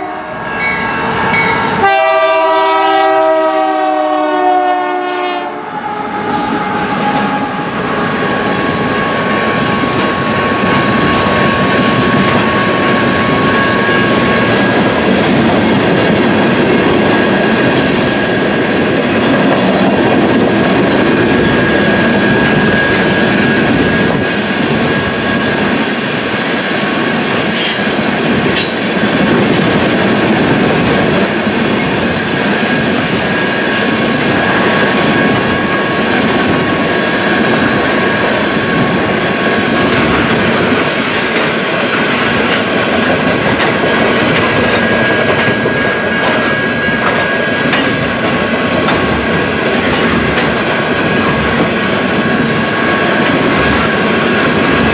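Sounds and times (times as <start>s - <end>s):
train wheels clicking over rail joints: 6.2s - 54.9s.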